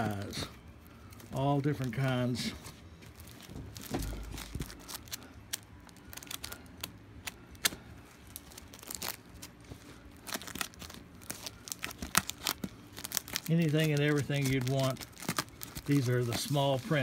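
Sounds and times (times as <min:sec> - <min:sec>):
plastic sleeves crinkling: 0:00.0 - 0:17.0.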